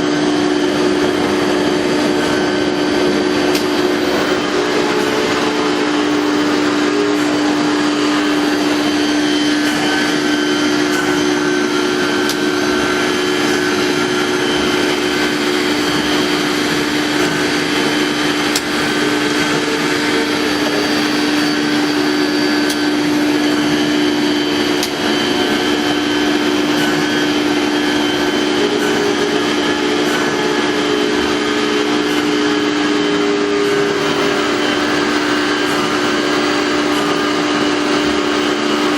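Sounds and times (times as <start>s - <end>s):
router hum and rushing: 0.0s - 38.9s.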